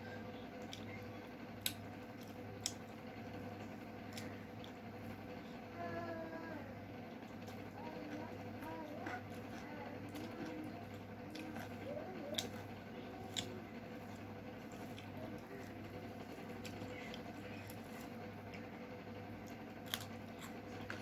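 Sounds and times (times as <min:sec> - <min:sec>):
wet chewing and smacking: 0:00.6 - 0:05.3, 0:07.1 - 0:21.0.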